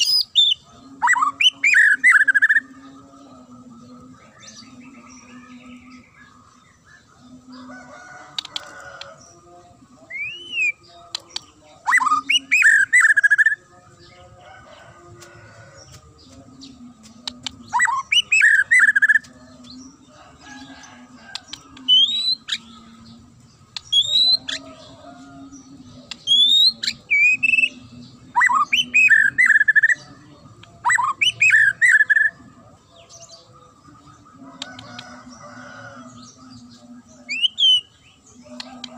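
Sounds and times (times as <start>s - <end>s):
bird singing whistles and chatter: 0.0s - 3.1s, 10.0s - 38.9s.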